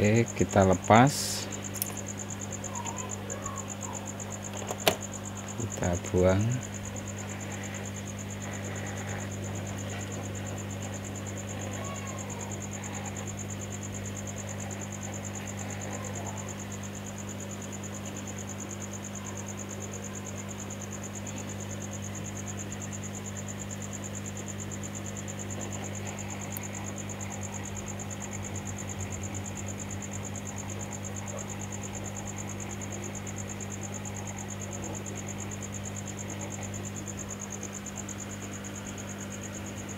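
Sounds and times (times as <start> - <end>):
hot-air station blowing hum: 0.0 - 39.9.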